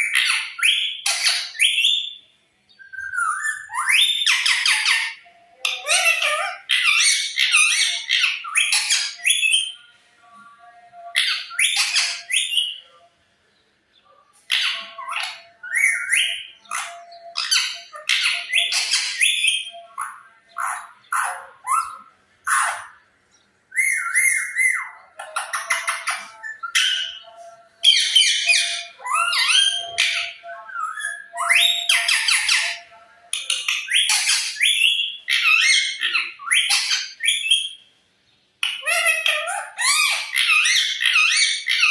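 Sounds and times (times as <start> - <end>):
parrot squawking: 0.0 - 2.2, 3.0 - 9.8, 10.9 - 13.0, 14.4 - 23.0, 23.7 - 37.8, 38.6 - 41.9.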